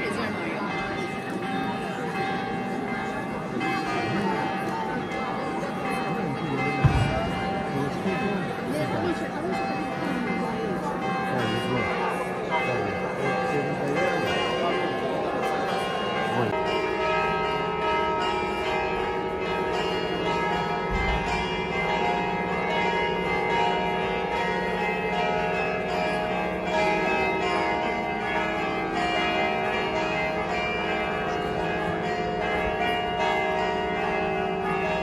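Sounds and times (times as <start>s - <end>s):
church bells pealing: 0.0s - 35.0s.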